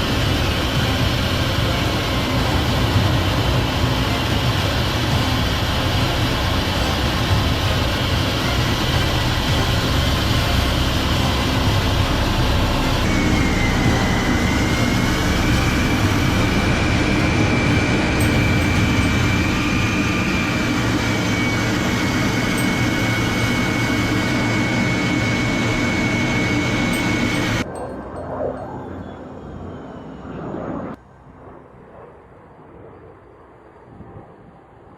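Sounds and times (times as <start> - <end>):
jet engine running: 0.0 - 31.0.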